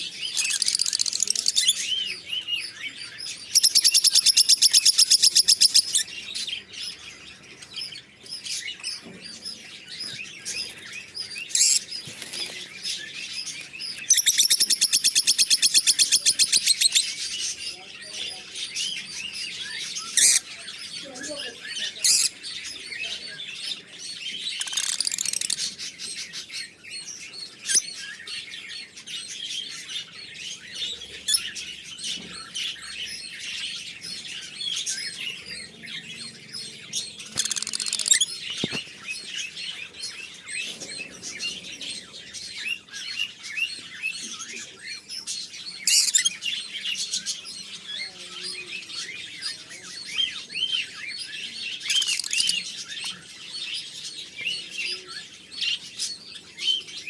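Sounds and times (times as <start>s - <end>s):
parrots chirping and chattering: 0.0s - 57.0s.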